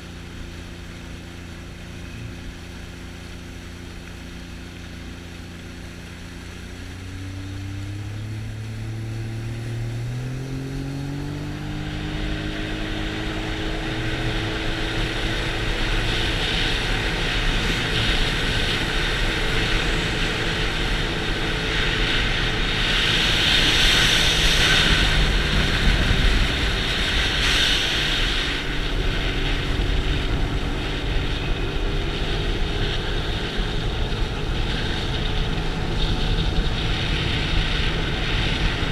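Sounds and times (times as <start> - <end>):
jet ski engine accelerating: 0.0 - 38.9
rush of water and wind: 0.0 - 38.9.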